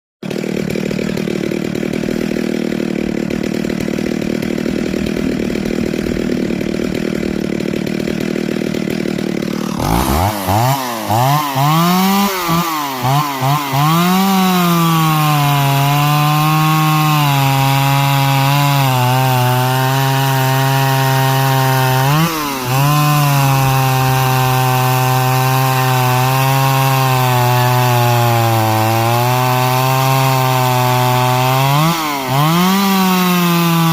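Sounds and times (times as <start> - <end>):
chainsaw running: 0.2 - 33.9.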